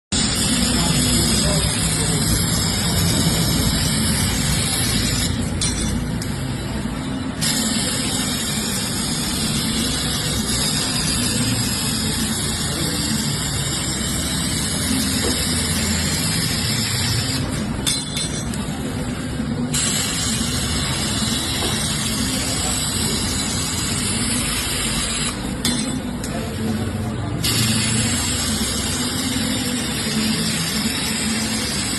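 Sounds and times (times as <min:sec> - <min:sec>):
laser cutting machine hissing: 0:00.1 - 0:31.9.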